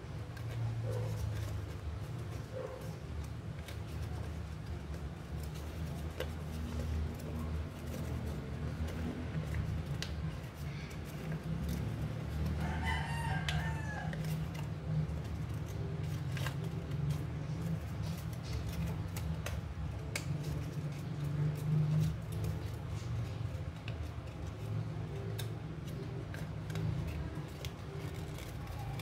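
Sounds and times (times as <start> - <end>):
paper being folded and creased: 0.0 - 29.0.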